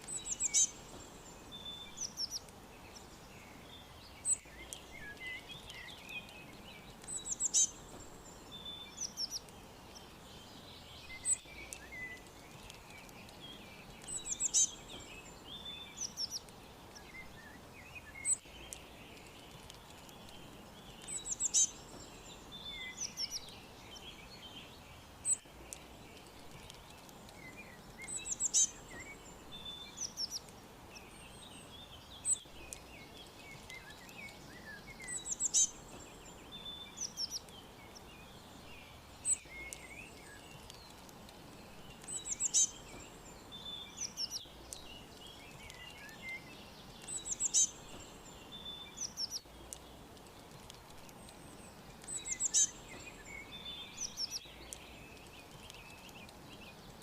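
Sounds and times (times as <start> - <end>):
faint background hiss: 0.0 - 57.0
songbirds chirping: 0.0 - 57.0.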